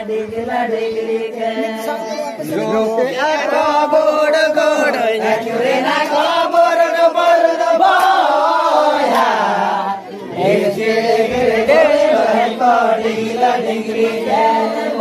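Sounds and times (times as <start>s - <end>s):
men singing in chanting style: 0.0s - 15.0s.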